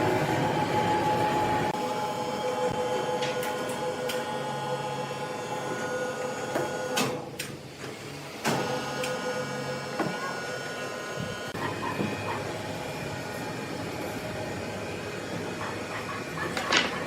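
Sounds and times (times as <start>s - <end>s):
sawmill machinery whine: 0.0s - 17.0s.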